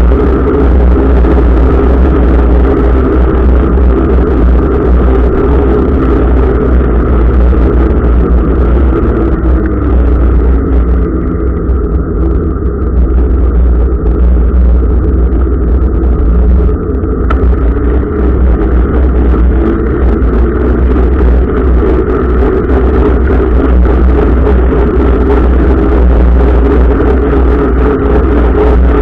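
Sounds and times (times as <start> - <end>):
motor vehicle rumbling: 0.0 - 29.0.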